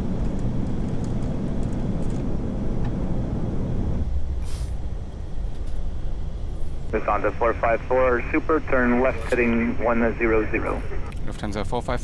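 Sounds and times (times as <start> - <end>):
airflow and engines rumbling: 0.0 - 12.0.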